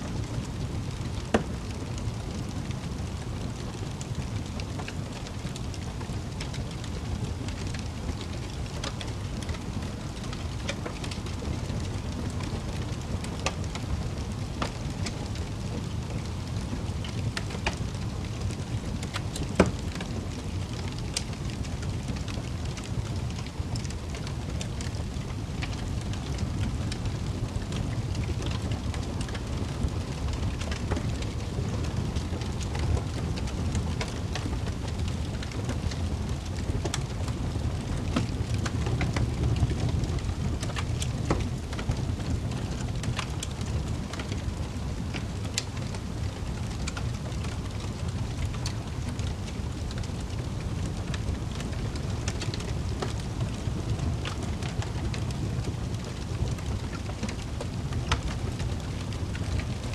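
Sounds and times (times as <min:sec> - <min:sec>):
low fire rumble: 0:00.0 - 0:59.9
wood fire crackling: 0:00.0 - 0:59.9
fire popping: 0:00.5 - 0:59.9.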